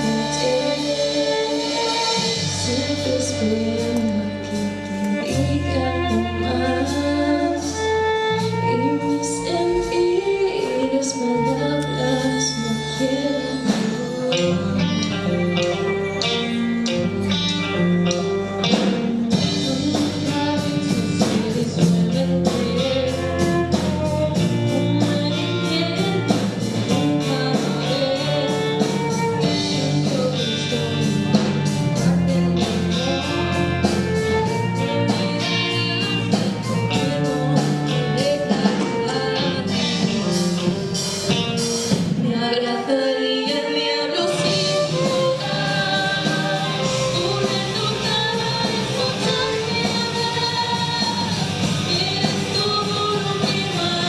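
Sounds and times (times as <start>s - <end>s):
steady drum beat: 0.0s - 9.8s, 13.6s - 42.4s, 44.4s - 54.0s
guitar: 0.0s - 54.0s
person singing: 0.0s - 54.0s.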